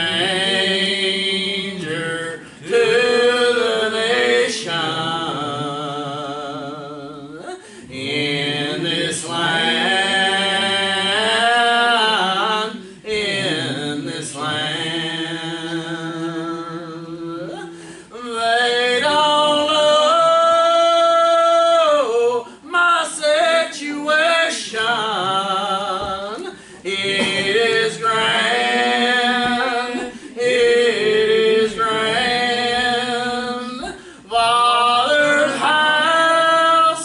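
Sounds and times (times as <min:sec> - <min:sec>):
person singing gospel: 0:00.0 - 0:37.0.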